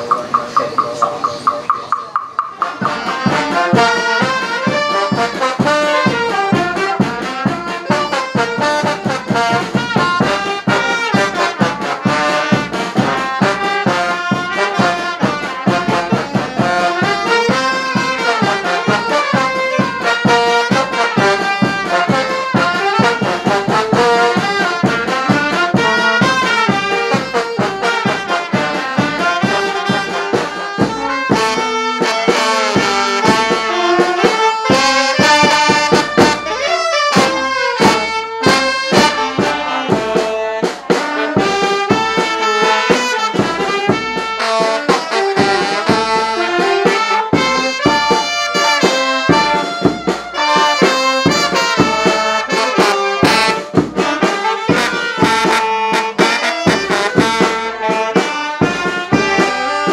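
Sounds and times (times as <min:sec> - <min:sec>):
steady drum beat: 0:00.0 - 0:59.9
trumpets and trombones playing: 0:00.0 - 0:59.9.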